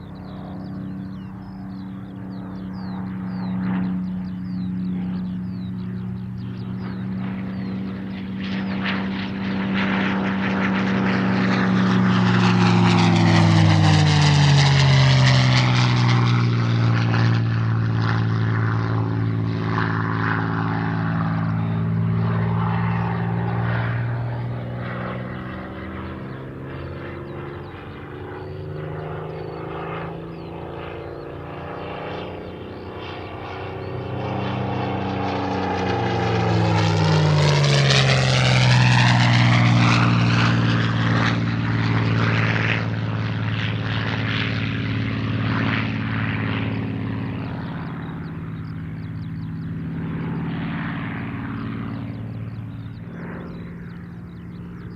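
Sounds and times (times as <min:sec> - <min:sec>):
propeller plane flying past: 0:00.0 - 0:54.9.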